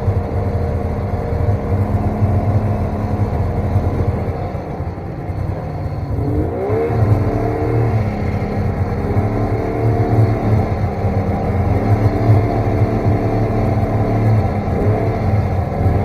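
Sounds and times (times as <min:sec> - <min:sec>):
snowmobile engine revving: 0:01.1 - 0:16.0.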